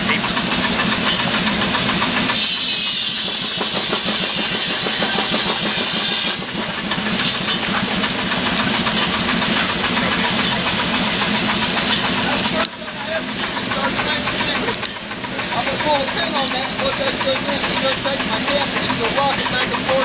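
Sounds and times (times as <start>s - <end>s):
loud high rushing hiss: 0.0s - 20.0s
sawmill machinery running: 0.0s - 20.0s.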